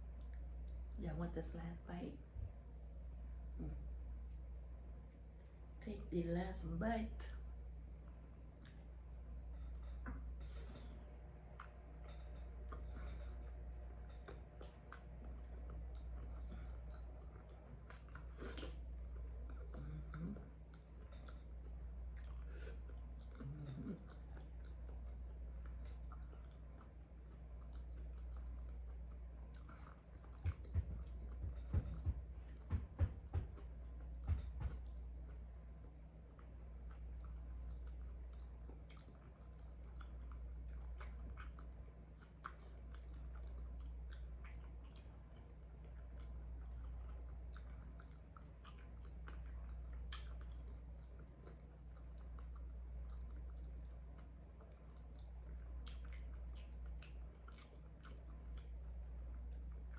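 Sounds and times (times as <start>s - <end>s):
close chewing with crackles: 0.0s - 2.1s, 7.1s - 32.8s, 33.4s - 59.9s
low hum: 0.0s - 59.9s.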